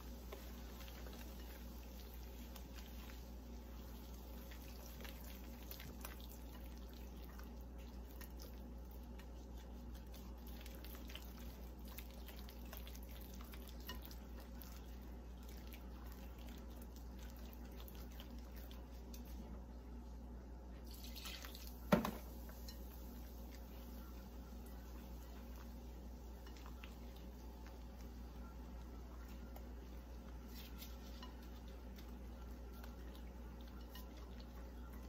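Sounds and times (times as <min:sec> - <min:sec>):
batter stirring in bowl: 0:00.0 - 0:19.5, 0:21.8 - 0:35.0.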